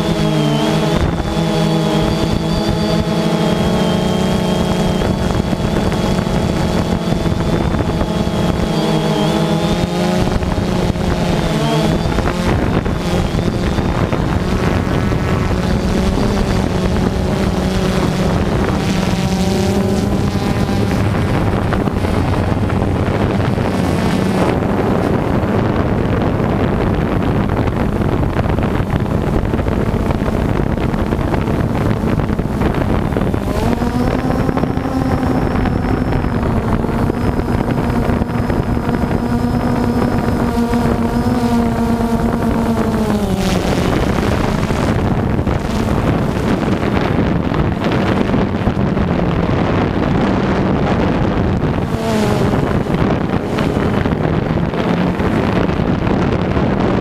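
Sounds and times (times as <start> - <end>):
drone motors and propellers humming: 0.0 - 57.0
wind on microphone: 0.0 - 57.0.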